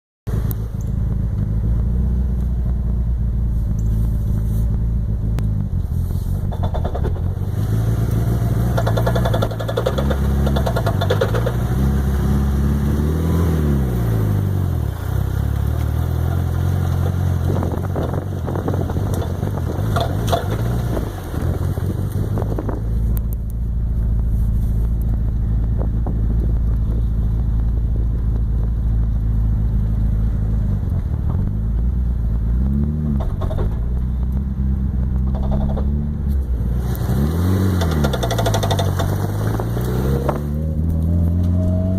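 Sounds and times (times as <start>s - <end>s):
car engine running at low speed: 0.3s - 41.9s.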